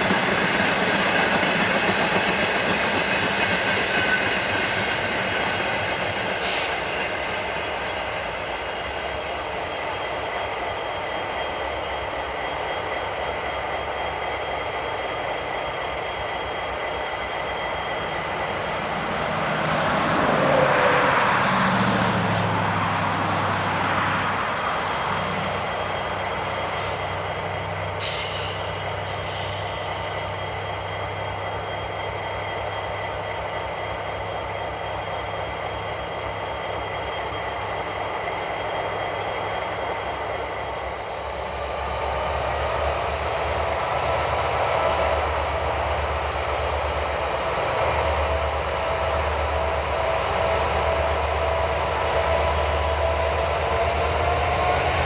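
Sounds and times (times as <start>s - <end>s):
diesel locomotives running: 0.0s - 55.0s.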